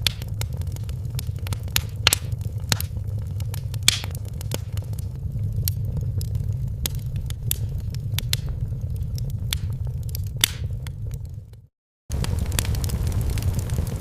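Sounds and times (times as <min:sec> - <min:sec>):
fire crackling with pops: 0:00.0 - 0:14.0
low fire rumble: 0:00.0 - 0:14.0.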